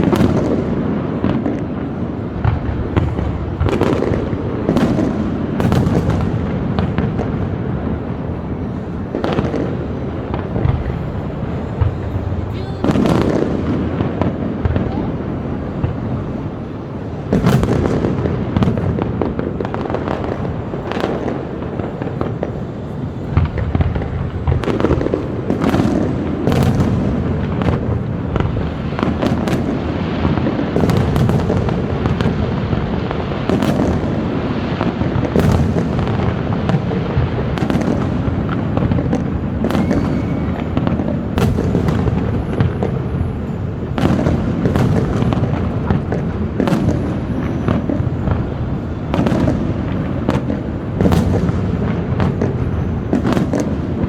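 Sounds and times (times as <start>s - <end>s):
fireworks booming: 0.0s - 54.0s
fireworks sharp cracks: 0.0s - 54.0s.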